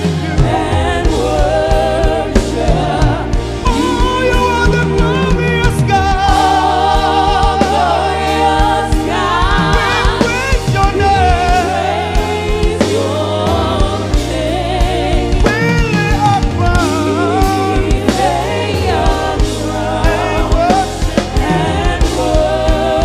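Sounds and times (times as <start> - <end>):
choir singing: 0.0 - 23.0
gospel band with bass and drums: 0.0 - 23.0
lead voice singing: 0.0 - 23.0.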